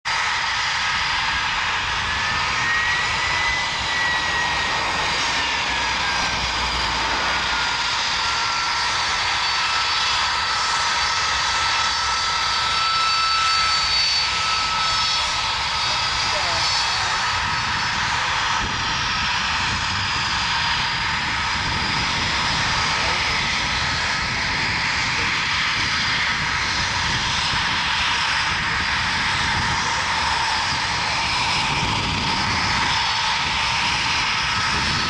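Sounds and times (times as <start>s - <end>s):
jet engine rushing and whining: 0.0s - 35.0s.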